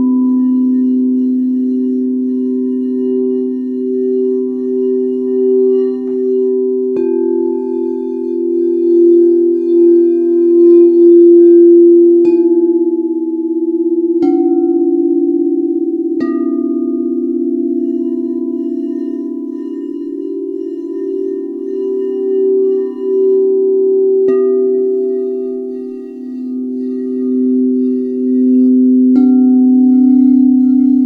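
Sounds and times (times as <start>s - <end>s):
singing bowl strikes: 0.0s - 31.0s
singing bowls ringing: 0.0s - 31.0s.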